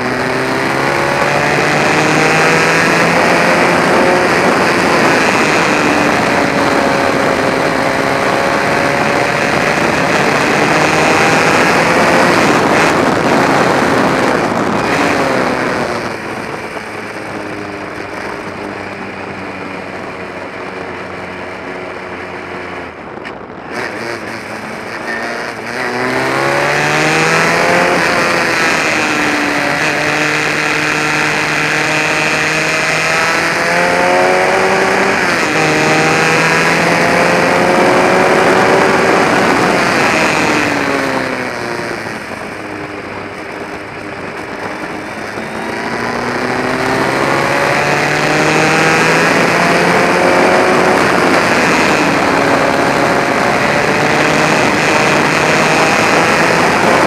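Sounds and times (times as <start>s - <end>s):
gear change: 0.0s - 57.0s
racing car engine at full throttle: 0.0s - 57.0s
wind rushing past: 0.0s - 57.0s.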